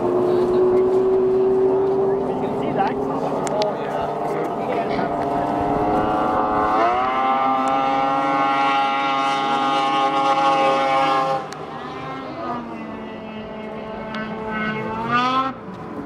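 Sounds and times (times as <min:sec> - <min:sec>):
snowmobile engine whine: 0:00.0 - 0:16.0.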